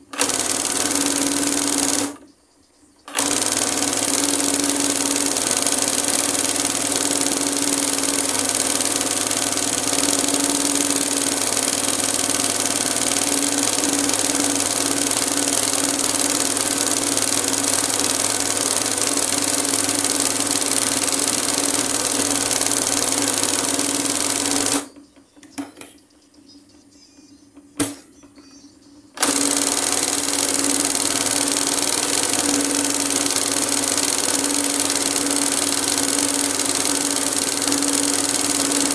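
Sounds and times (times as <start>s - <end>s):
machine clicks: 0.0s - 2.3s, 3.0s - 26.1s, 29.2s - 38.9s
embroidery machine humming: 3.1s - 25.0s, 26.3s - 38.9s.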